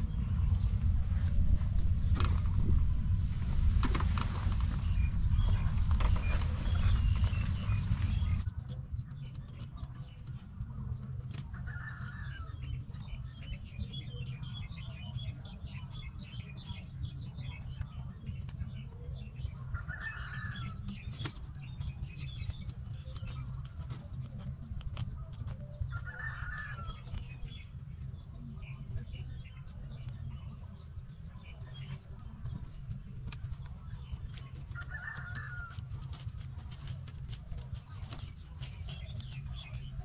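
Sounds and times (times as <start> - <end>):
small birds chirping: 0.0 - 40.0
wind rumbling on microphone: 0.0 - 40.0.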